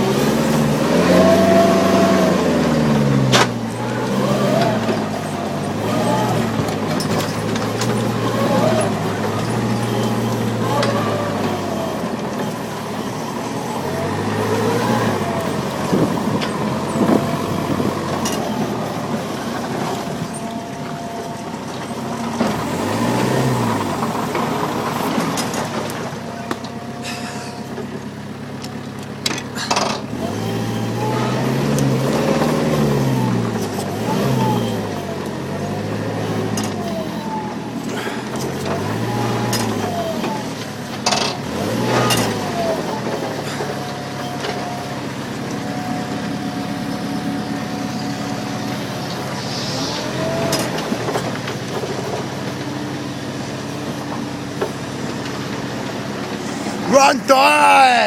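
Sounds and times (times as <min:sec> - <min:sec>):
dumper engine revving: 0:00.0 - 0:58.0.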